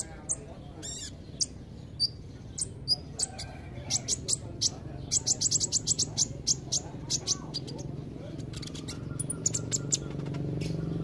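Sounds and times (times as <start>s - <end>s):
bird chirping high and sharp: 0.0s - 3.4s, 4.0s - 11.0s.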